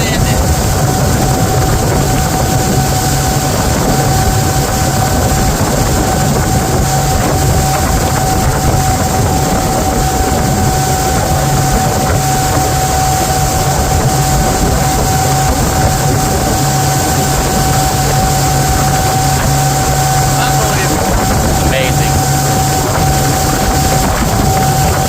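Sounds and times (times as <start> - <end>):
constant whine: 0.0 - 25.0
motorboat engine running: 0.0 - 25.0
wind and water noise: 0.0 - 25.0.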